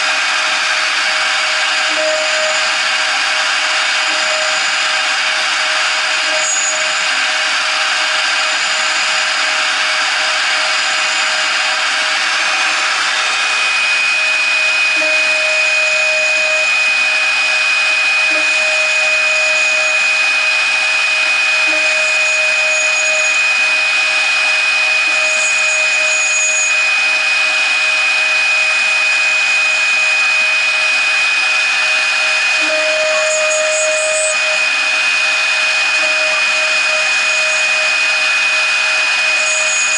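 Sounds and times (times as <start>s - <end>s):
router spindle cutting metal: 0.0s - 39.9s.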